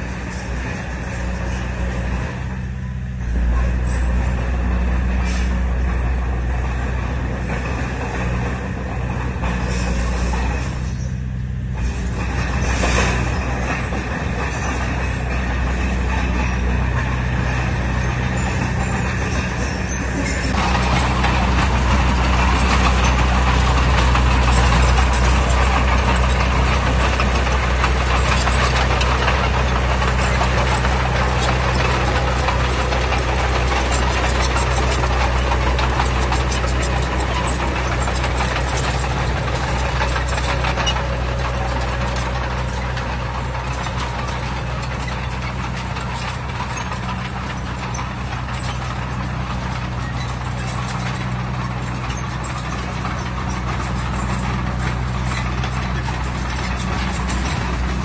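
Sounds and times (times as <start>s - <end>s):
bulldozer diesel engine running: 0.0s - 58.0s
dense rattling clatter: 0.0s - 58.0s.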